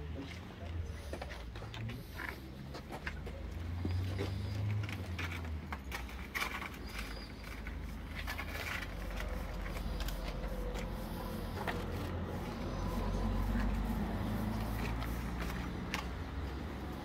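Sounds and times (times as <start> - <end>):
hand brush scratching and tapping: 1.0 - 17.0.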